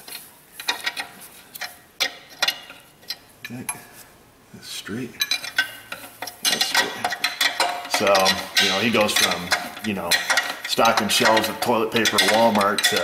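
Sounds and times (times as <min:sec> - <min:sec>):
wrench clinking against bolt: 0:00.6 - 0:03.8, 0:05.2 - 0:13.0.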